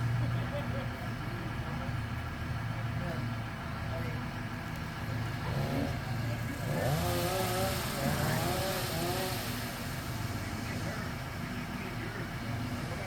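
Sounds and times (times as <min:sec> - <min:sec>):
faint voices: 0:00.0 - 0:13.0
large engine idling: 0:00.0 - 0:13.0.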